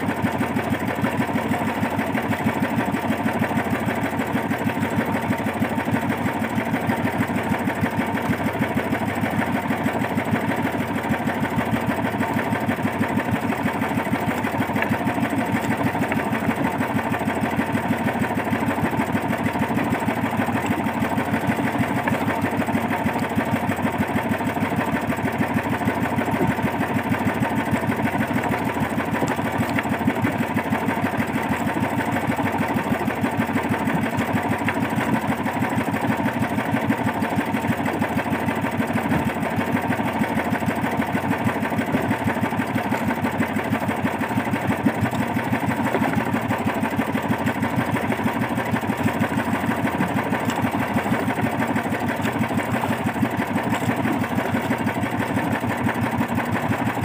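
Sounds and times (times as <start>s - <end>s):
boat engine puttering: 0.0s - 57.0s.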